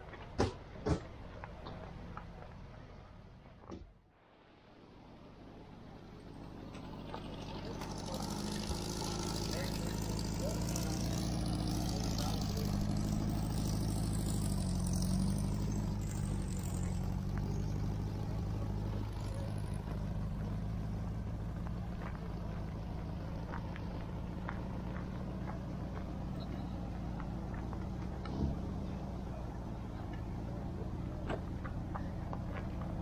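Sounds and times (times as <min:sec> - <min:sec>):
car engine running: 0:05.8 - 0:33.0.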